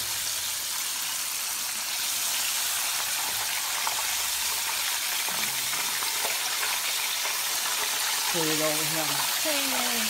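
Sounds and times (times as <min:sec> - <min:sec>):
chicken deep-frying in oil: 0:00.0 - 0:10.0.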